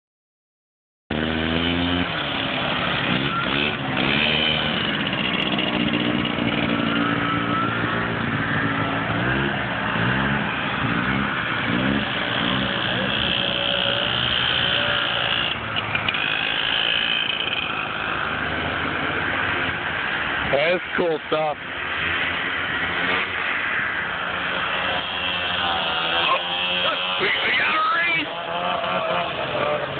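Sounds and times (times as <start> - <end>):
snowmobile engines revving past: 1.1 - 20.2, 20.8 - 29.9.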